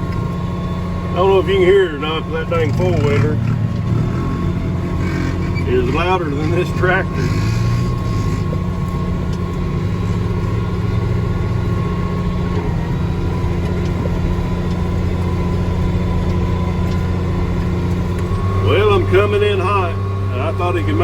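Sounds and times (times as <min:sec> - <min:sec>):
tractor engine drone: 0:00.0 - 0:21.0.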